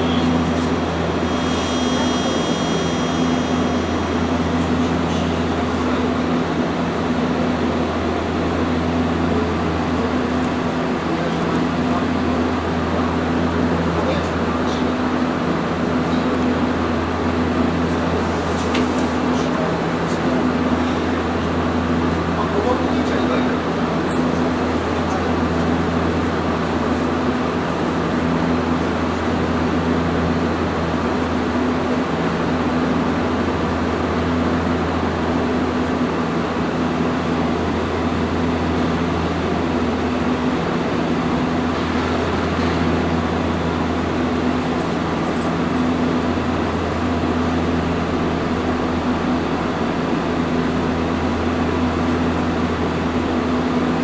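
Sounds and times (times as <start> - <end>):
tram mechanical hum: 0.0 - 54.0.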